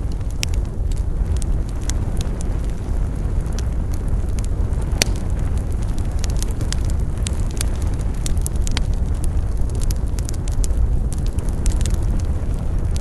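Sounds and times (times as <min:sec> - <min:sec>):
sharp pop of fire: 0:00.0 - 0:13.0
wood fire crackling: 0:00.0 - 0:13.0.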